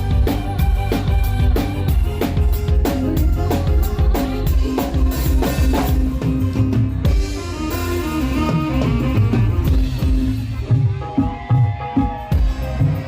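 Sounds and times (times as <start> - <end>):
loud music with drums and bass: 0.0 - 13.0.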